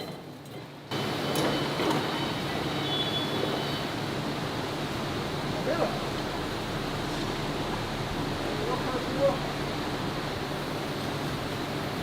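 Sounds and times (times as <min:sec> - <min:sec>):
industrial machinery running: 0:00.9 - 0:12.0.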